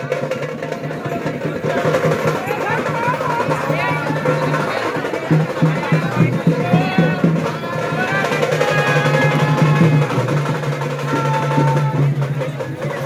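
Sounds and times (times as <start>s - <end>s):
drum rolls: 0.0s - 13.0s
festival music with drumming: 0.0s - 13.0s.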